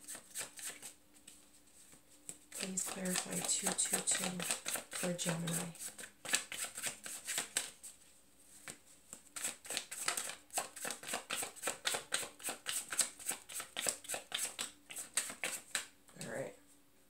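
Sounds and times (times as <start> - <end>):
cards being shuffled by hand: 0.0 - 16.4.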